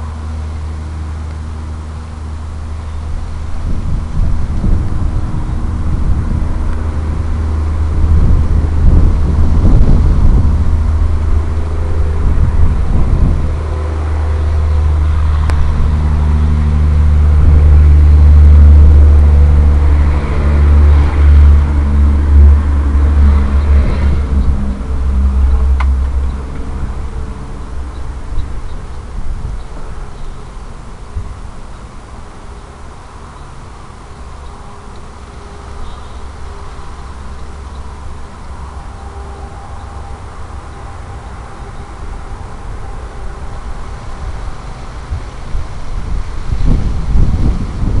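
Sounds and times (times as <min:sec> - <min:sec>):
drone motors and propellers: 0:00.0 - 0:48.0
wind rumble on microphone: 0:00.0 - 0:48.0.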